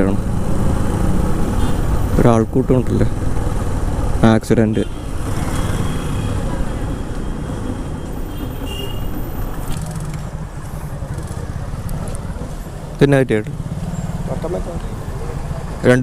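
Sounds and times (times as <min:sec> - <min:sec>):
motorcycle engine running: 0:00.0 - 0:07.7, 0:09.4 - 0:15.8
road and traffic noise: 0:00.0 - 0:16.0.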